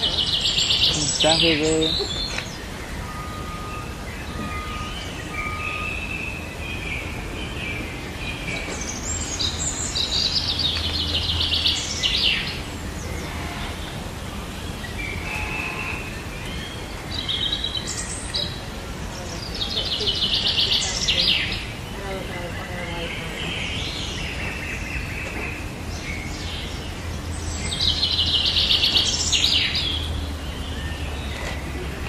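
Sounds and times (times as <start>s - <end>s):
background hiss: 0.0s - 32.0s
birds chirping and calling: 0.0s - 32.0s.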